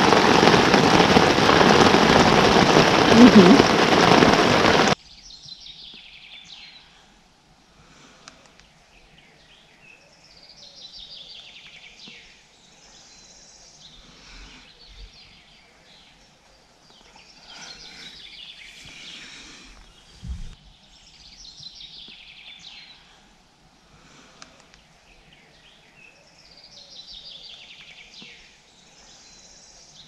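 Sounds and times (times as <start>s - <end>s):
faint steady hiss: 0.0s - 30.0s
songbirds singing: 4.7s - 30.0s.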